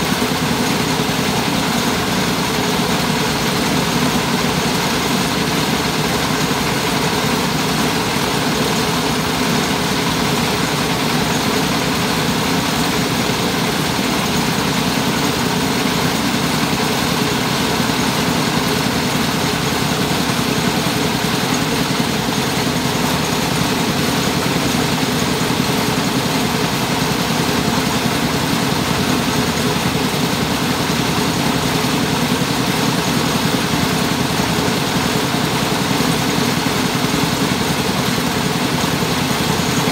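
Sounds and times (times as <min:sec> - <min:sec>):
rice huller engine running: 0:00.0 - 0:39.9.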